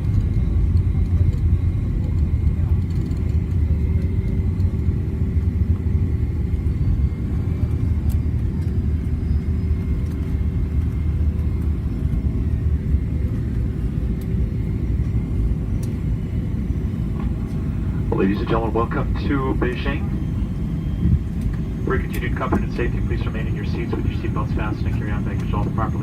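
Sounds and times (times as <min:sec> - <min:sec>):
aircraft cabin rumble while taxiing: 0:00.0 - 0:26.0.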